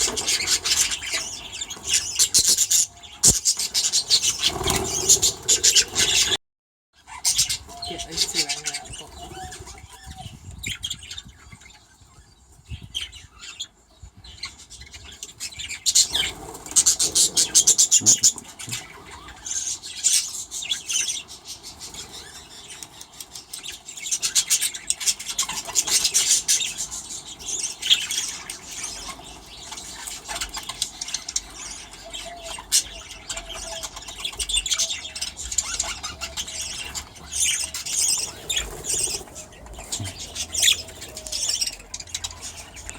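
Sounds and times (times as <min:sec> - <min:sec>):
budgerigars chattering: 0:00.0 - 0:06.4, 0:07.0 - 0:11.9, 0:14.3 - 0:42.9.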